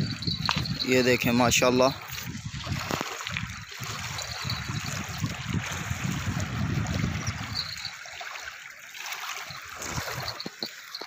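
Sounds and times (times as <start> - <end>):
waves lapping over pebbles: 0.0 - 11.0.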